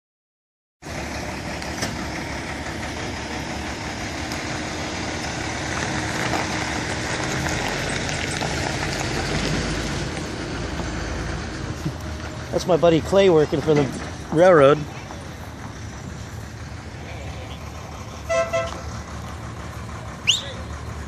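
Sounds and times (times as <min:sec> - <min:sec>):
vehicle engine running: 0:00.8 - 0:21.0.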